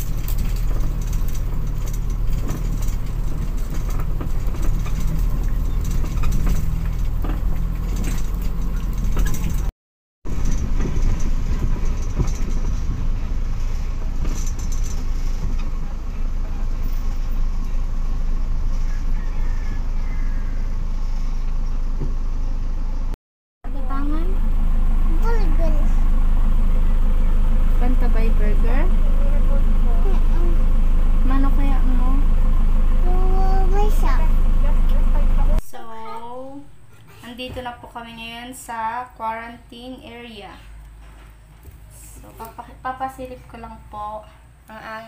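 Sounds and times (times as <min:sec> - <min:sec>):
road noise: 0:00.0 - 0:45.0
vehicle engine rumble: 0:00.0 - 0:45.0.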